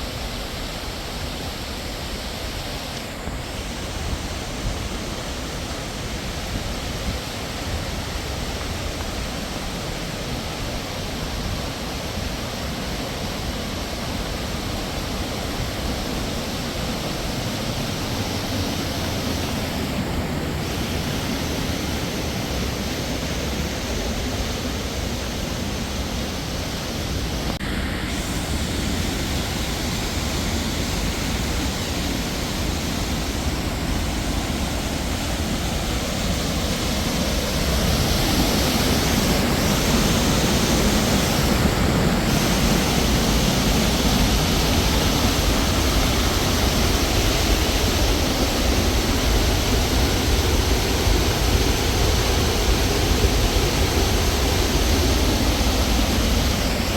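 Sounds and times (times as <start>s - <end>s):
falling water rushing: 0.0s - 56.9s.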